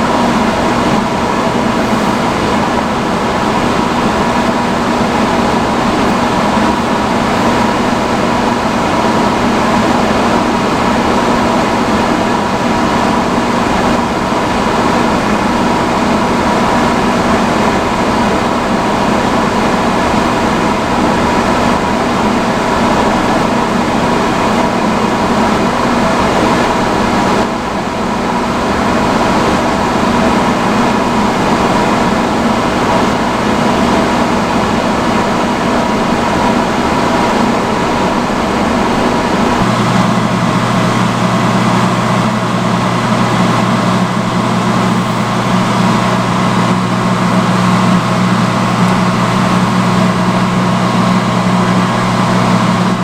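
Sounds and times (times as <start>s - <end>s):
hood hair dryer blowing air: 0.0s - 53.0s.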